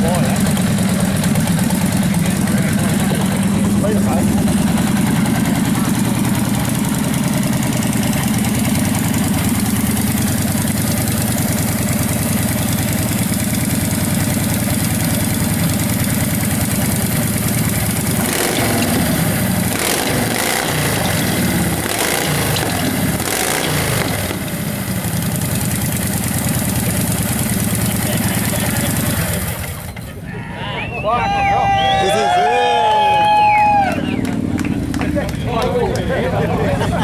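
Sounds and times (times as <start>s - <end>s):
large engine idling and revving: 0.0s - 30.3s, 32.3s - 37.0s.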